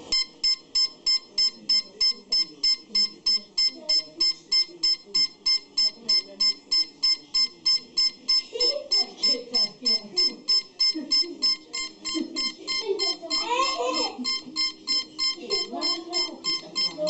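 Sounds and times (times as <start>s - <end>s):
high-pitched electronic beeps: 0.0s - 17.0s.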